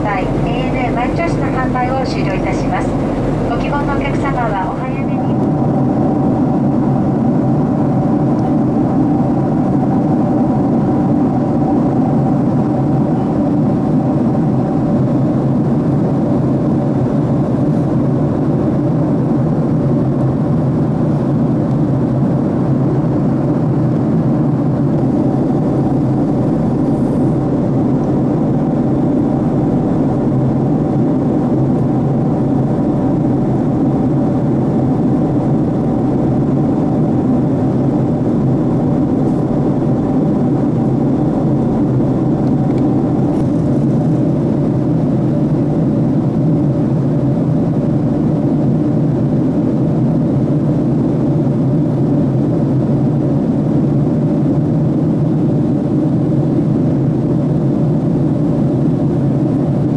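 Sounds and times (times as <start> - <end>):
faint steady hum: 0.0 - 18.8, 22.8 - 53.8
rushing airflow: 0.0 - 51.4
jet engines droning: 0.0 - 59.9.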